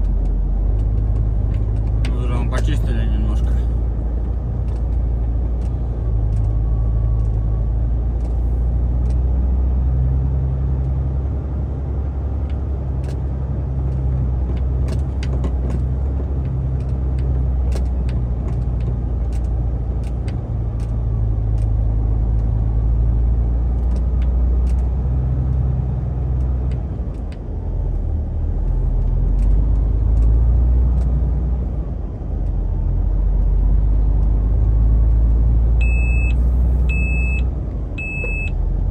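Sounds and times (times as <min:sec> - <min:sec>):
truck diesel engine droning: 0:00.0 - 0:38.9.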